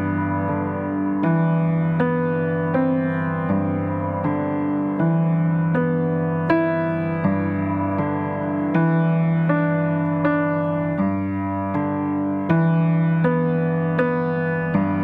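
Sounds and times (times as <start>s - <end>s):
gentle electric piano melody: 0.0s - 15.0s.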